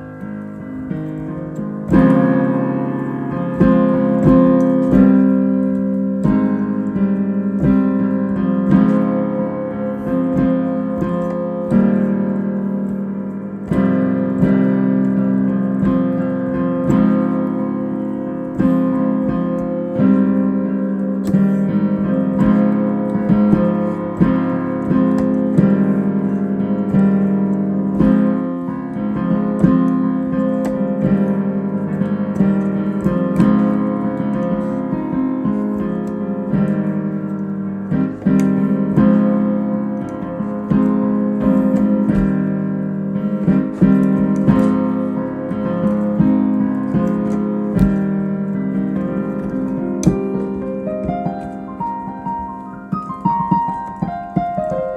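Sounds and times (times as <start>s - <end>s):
solo piano chords: 0.0s - 54.9s.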